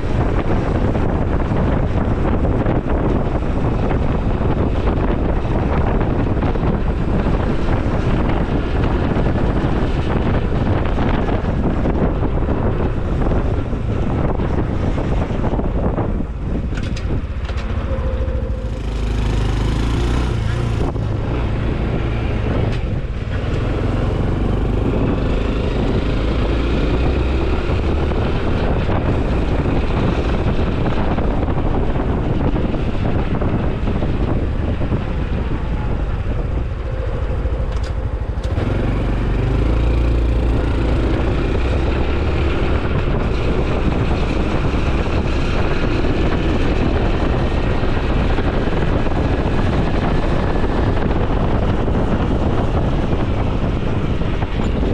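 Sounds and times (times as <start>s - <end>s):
motorcycle engine and exhaust: 0.0s - 54.9s.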